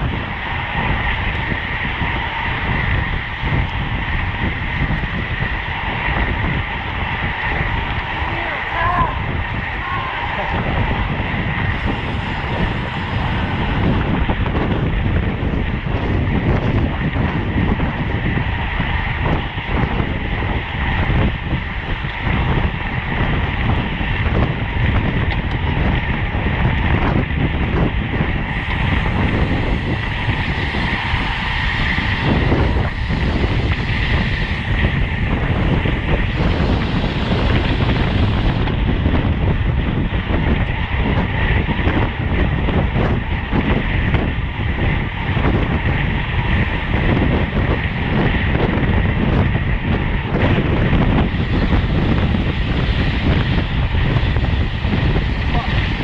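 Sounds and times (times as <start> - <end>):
bike tyres rolling: 0.0 - 56.0
wind rushing over microphone: 0.0 - 56.0.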